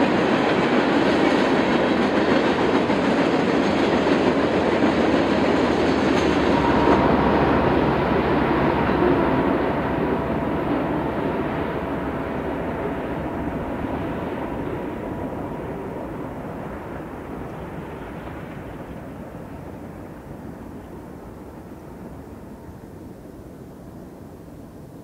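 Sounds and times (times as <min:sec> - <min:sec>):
freight train rolling on rails: 0:00.0 - 0:25.0.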